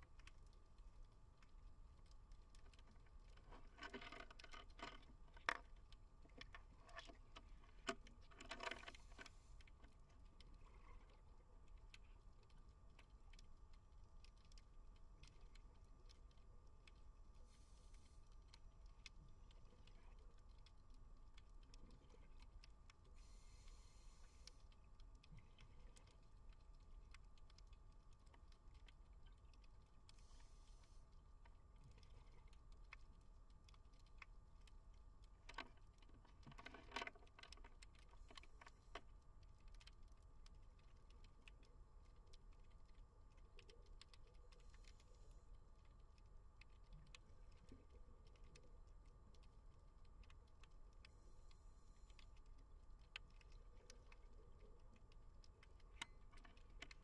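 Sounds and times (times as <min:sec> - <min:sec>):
low underwater hum: 0:00.0 - 0:57.0
underwater clicks and crackles: 0:00.0 - 0:57.0.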